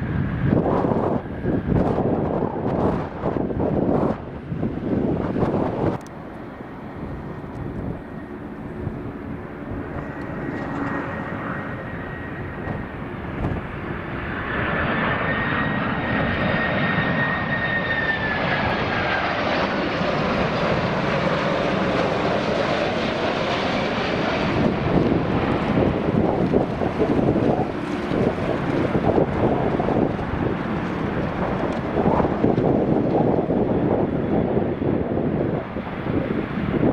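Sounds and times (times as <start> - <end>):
jet airliner engines passing: 0.0 - 36.9.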